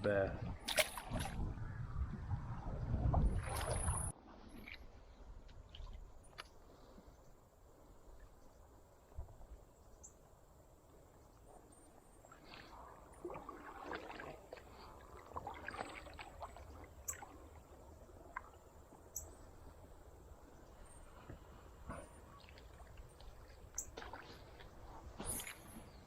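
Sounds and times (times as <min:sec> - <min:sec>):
faint water splashing: 0:00.1 - 0:01.6, 0:02.5 - 0:09.6, 0:10.7 - 0:26.0.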